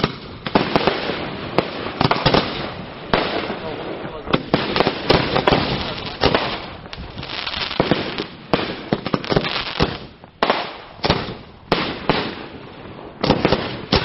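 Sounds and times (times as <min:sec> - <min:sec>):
fireworks bursting with sharp bangs: 0:00.0 - 0:14.0
fireworks crackle: 0:00.0 - 0:14.0.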